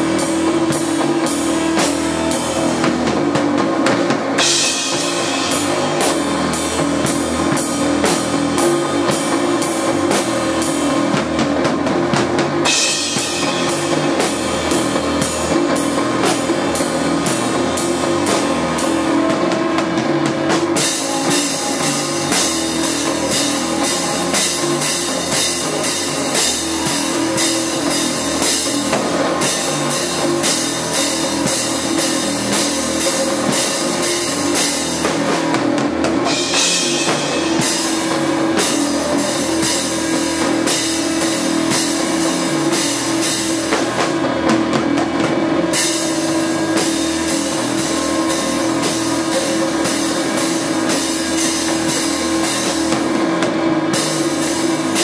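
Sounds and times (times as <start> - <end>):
cymbals: 0.0 - 11.3, 12.4 - 55.0
drum kit steady beat: 0.0 - 55.0
electric guitar: 0.0 - 55.0.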